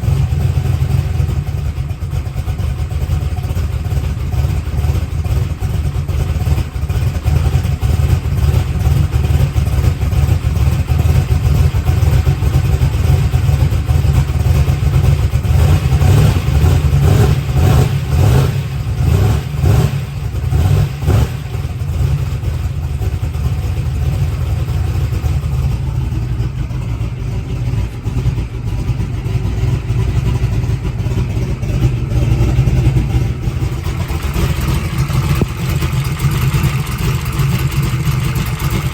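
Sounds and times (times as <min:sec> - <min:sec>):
loud engine idling: 0:00.0 - 0:38.9.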